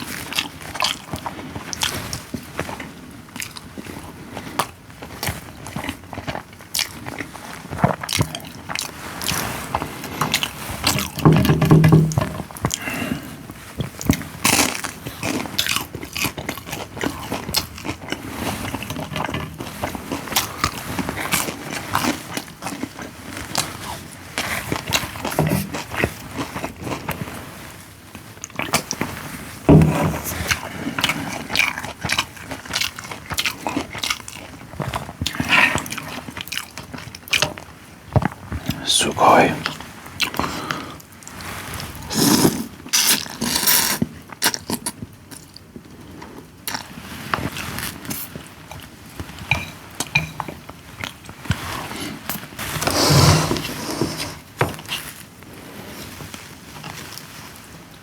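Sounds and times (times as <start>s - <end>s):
person chewing food: 0.0s - 57.3s.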